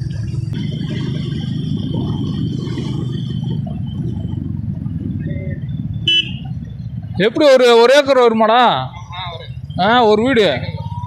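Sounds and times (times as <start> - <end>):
motorcycle engine and road rumble: 0.0 - 11.0.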